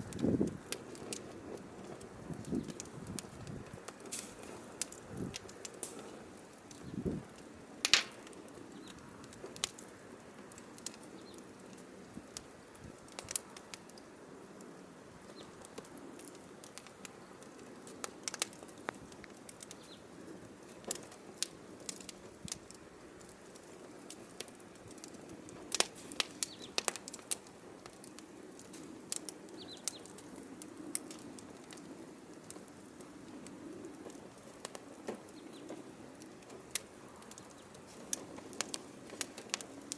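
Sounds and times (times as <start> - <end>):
firewood crackling and popping: 0.0 - 39.9
rush of flame: 0.0 - 39.9.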